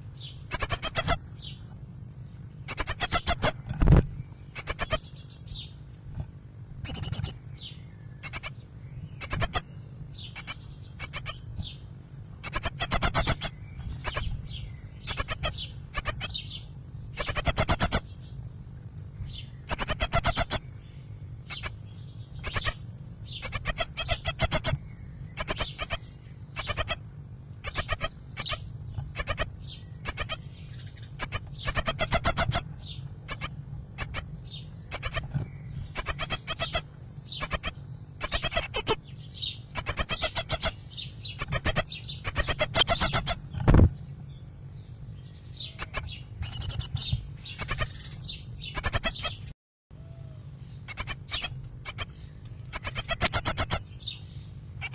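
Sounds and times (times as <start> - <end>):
steady low hum: 0.0 - 54.9
nestlings begging calls: 0.1 - 1.6, 2.6 - 3.6, 4.4 - 5.8, 6.8 - 18.5, 19.2 - 43.6, 44.3 - 54.9.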